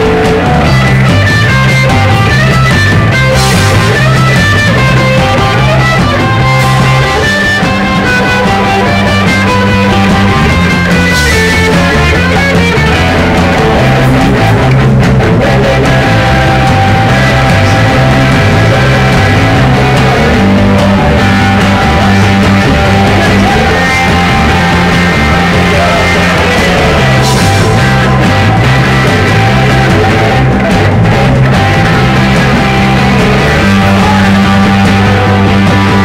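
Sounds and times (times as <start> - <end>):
drum kit: 0.0 - 36.0
electric bass: 0.0 - 36.0
electric guitars: 0.0 - 36.0.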